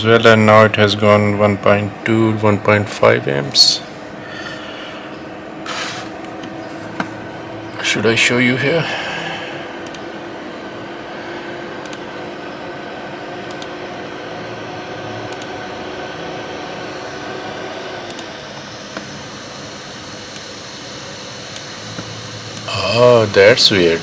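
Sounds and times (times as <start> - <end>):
cooling fan whirring: 0.0 - 24.0.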